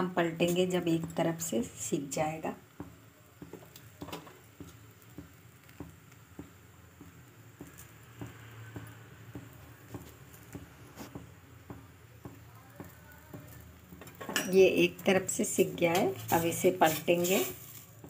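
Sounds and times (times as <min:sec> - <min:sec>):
flatbread cooking soft ticks: 0:00.4 - 0:18.0.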